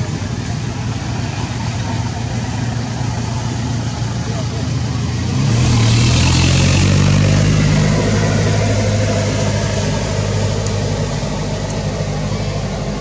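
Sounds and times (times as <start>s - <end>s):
engine humming with hiss: 0.0s - 13.0s.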